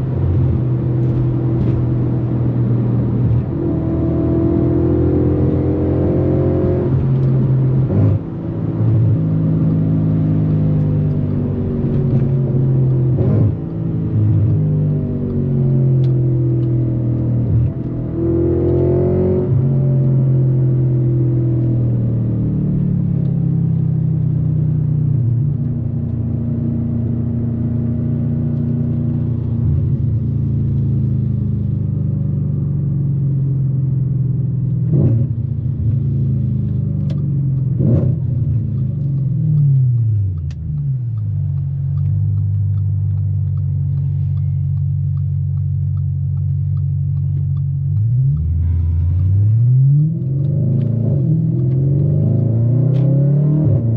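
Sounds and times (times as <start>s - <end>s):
car engine accelerating hard: 0.0s - 53.9s.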